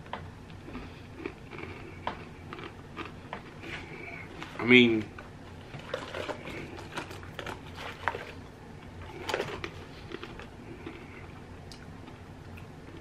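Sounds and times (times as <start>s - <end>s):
person chewing crunchy peanuts: 0.5s - 13.0s.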